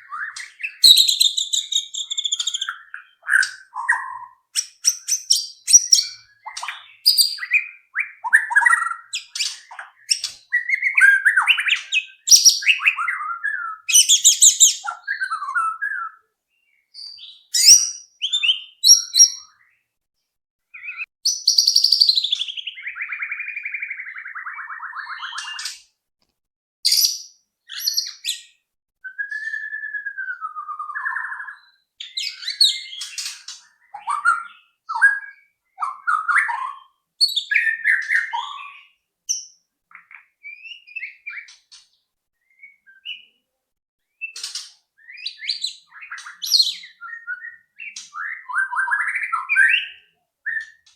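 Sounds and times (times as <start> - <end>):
bird singing whistled phrases: 0.0 - 19.8, 20.7 - 25.7, 26.9 - 41.5, 42.4 - 43.4, 45.0 - 50.9.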